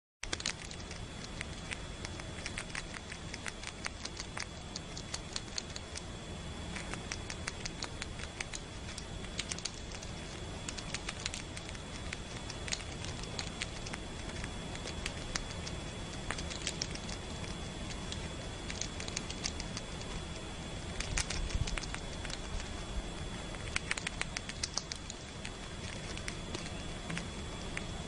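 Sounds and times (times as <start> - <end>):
squirrel gnawing on a lemon: 0.2 - 28.0.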